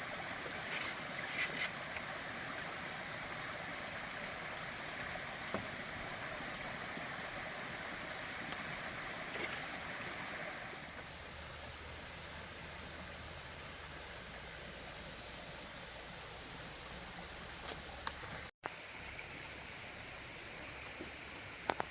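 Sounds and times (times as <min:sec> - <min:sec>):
high-pitched insect chorus: 0:00.0 - 0:21.9
hiss like running water: 0:00.0 - 0:21.9.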